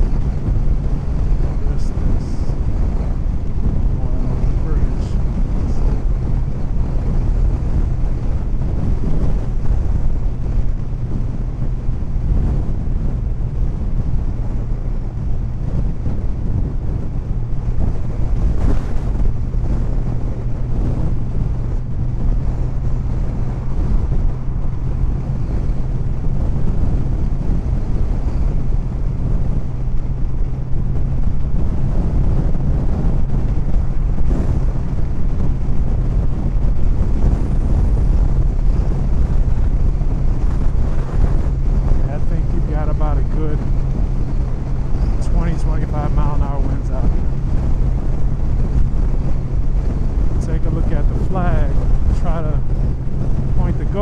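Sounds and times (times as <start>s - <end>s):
motorcycle engine cruising: 0.0s - 54.0s
wind buffeting microphone: 0.0s - 54.0s.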